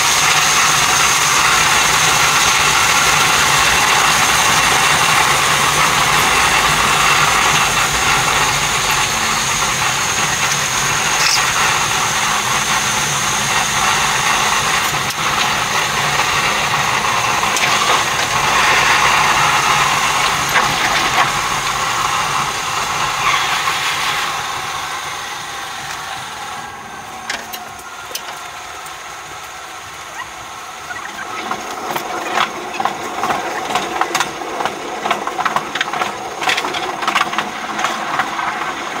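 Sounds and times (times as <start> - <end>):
train wheels on rail roar: 0.0 - 39.0
wheels clattering over rail joints: 0.0 - 39.0.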